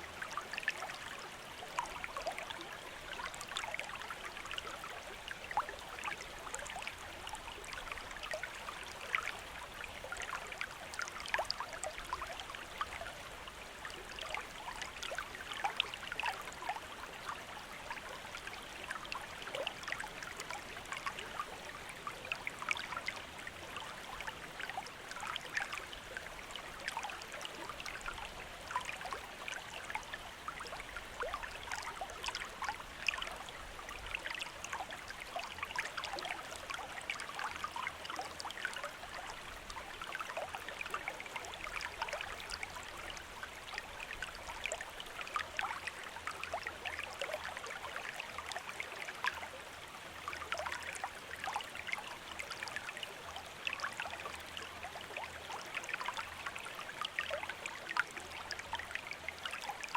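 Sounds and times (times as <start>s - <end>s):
stream trickling over stones: 0.0s - 59.9s.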